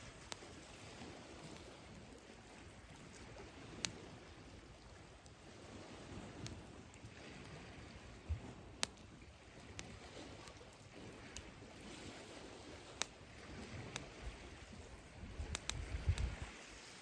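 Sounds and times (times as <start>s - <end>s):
campfire crackling: 0.0s - 17.0s
sea waves on shore: 0.0s - 17.0s.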